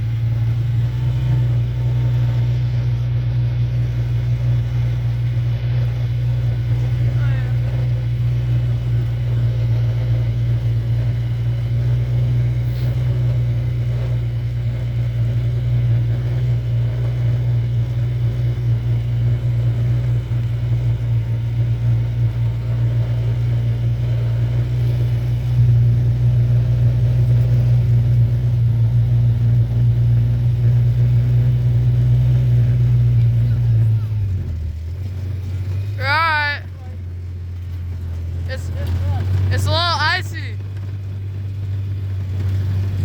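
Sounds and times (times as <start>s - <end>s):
vehicle engine drone: 0.0s - 43.0s.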